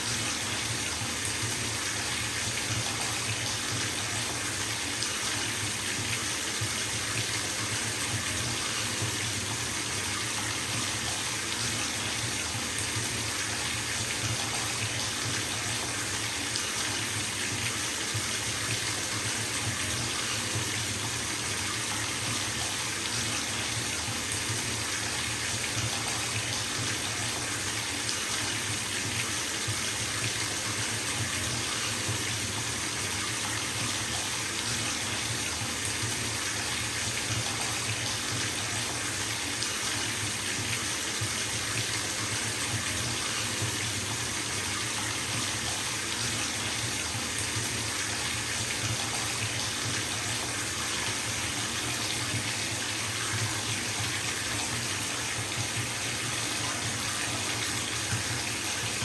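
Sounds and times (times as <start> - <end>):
faucet water pouring into bathtub: 0.0 - 59.0.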